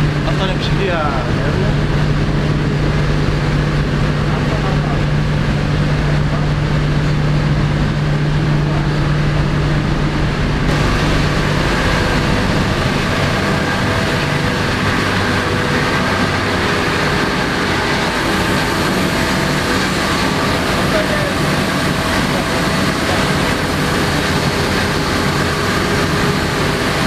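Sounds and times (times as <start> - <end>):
engine room machinery running: 0.0 - 27.0
steady low hum: 0.0 - 27.0
ventilation: 0.0 - 27.0.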